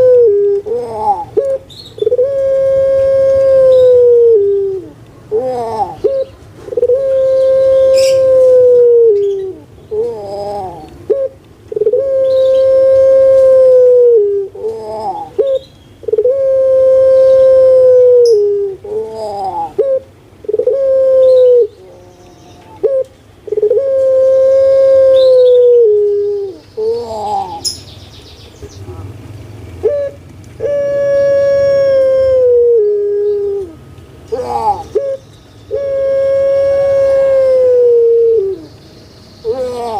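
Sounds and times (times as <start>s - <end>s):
dove cooing loudly: 0.0s - 27.8s, 29.8s - 38.7s, 39.4s - 39.9s.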